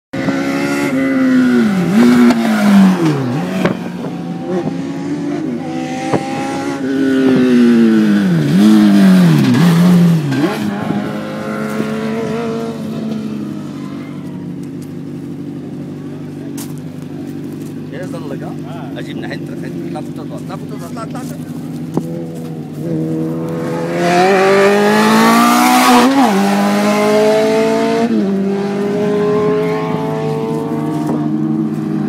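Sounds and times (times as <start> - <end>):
race car engines revving: 0.2 - 32.0.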